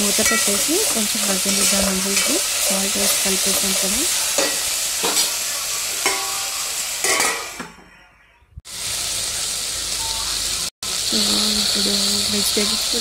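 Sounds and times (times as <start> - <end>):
vegetables sizzling in oil: 0.0 - 7.6, 8.7 - 13.0.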